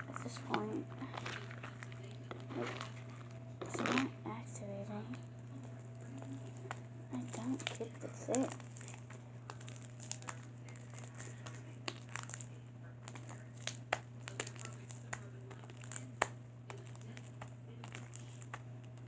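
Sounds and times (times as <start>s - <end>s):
steady low hum: 0.0s - 19.0s
sticky slime popping: 0.0s - 19.0s.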